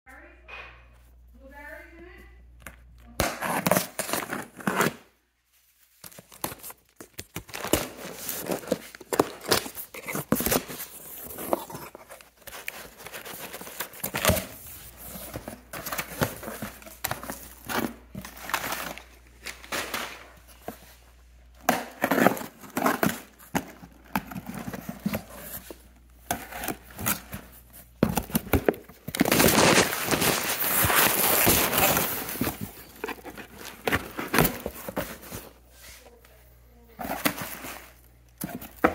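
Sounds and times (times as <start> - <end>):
packing materials rustling: 3.4 - 36.2.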